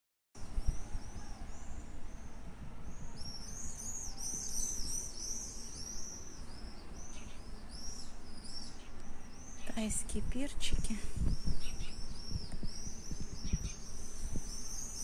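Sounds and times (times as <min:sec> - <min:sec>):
small birds chirping: 0:00.5 - 0:15.0.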